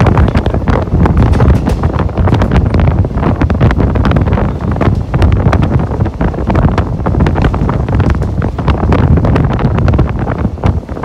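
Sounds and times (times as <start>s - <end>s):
train coaches rumbling on track: 0.0s - 11.0s
wind buffeting microphone: 0.0s - 11.0s.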